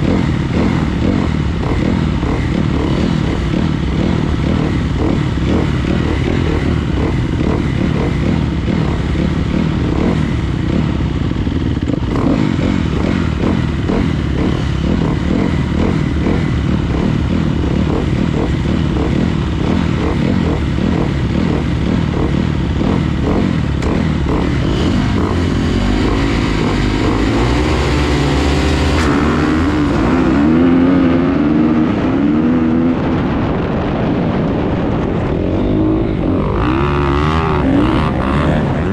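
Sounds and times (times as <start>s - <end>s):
dirt bike engine running hard: 0.0s - 38.9s.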